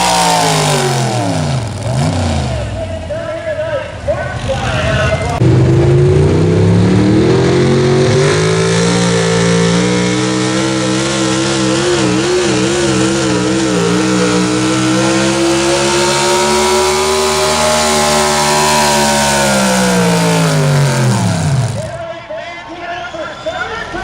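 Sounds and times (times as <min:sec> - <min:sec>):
truck engine at full revs: 0:00.0 - 0:03.2, 0:04.0 - 0:22.0.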